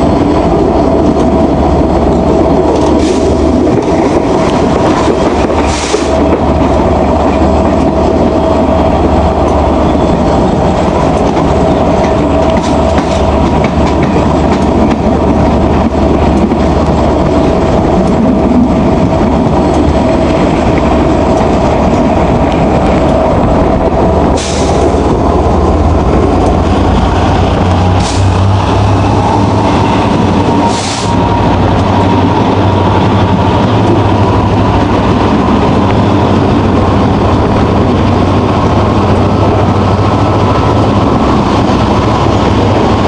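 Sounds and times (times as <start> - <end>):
locomotive engine hum: 0.0 - 43.0
wheels clattering on rails: 0.0 - 43.0.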